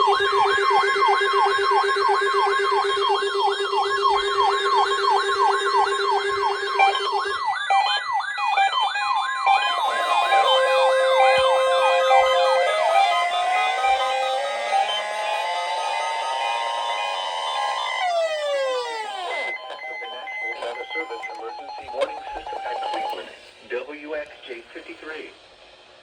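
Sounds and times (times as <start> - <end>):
electronic siren sweeping: 0.0 - 23.3
weather radio alarm tone: 0.0 - 23.5.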